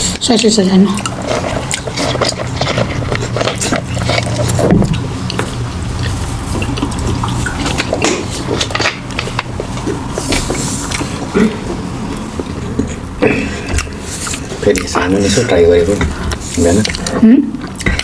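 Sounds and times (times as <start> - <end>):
wet chewing and lip smacking: 0.0 - 18.0.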